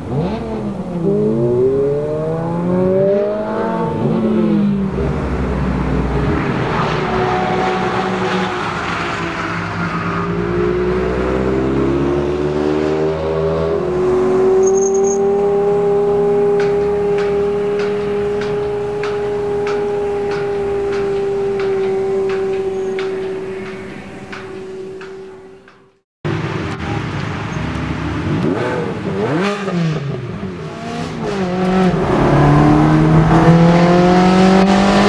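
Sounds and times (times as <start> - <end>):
sports cars accelerating: 0.0 - 35.0.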